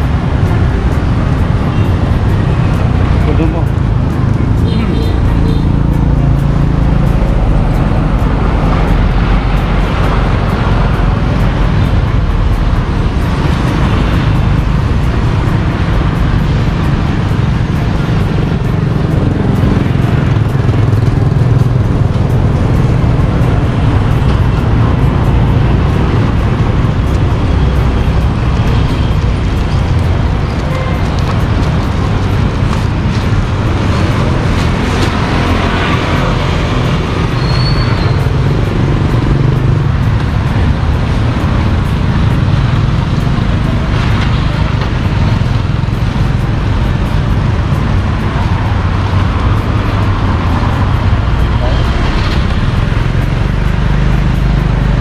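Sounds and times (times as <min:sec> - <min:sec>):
cars passing: 0:00.0 - 0:55.0
motorbikes: 0:00.0 - 0:55.0
street traffic rumble: 0:00.0 - 0:55.0.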